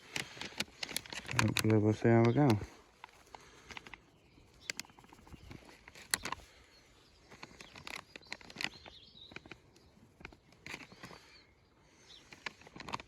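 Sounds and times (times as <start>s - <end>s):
bird chirping: 0.0s - 12.8s
compost rustling: 0.0s - 13.0s.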